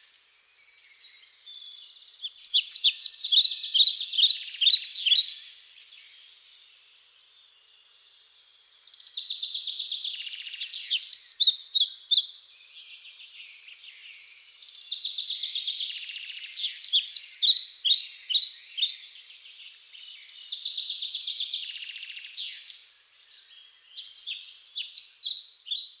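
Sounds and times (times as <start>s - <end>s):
songbird chirps and trills: 0.0s - 26.0s.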